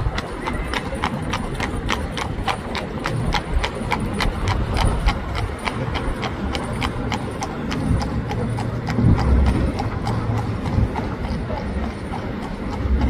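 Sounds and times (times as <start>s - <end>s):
horse hooves clip-clopping on road: 0.0s - 13.0s.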